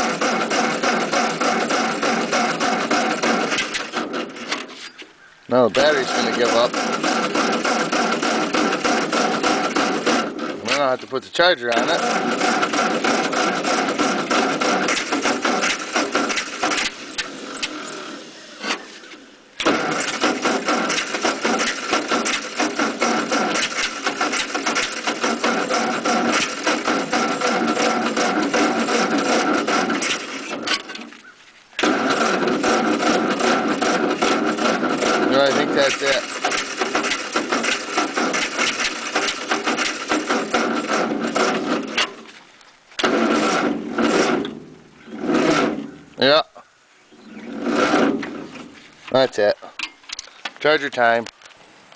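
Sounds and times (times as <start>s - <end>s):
starter motor cranking engine: 0.0s - 42.4s, 43.0s - 46.4s, 47.2s - 51.3s.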